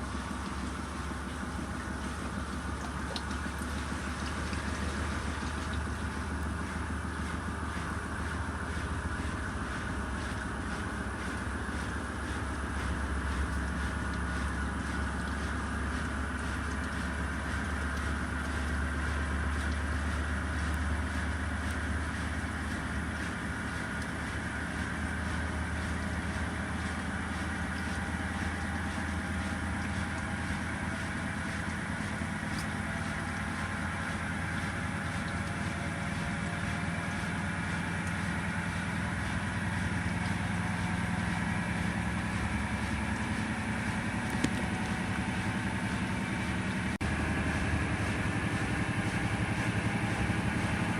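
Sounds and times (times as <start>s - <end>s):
washing machine motor hum: 0.0s - 50.9s.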